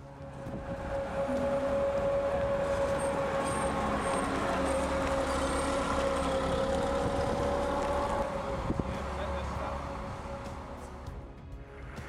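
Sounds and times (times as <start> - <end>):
armoured vehicle driving past: 0.0 - 12.0.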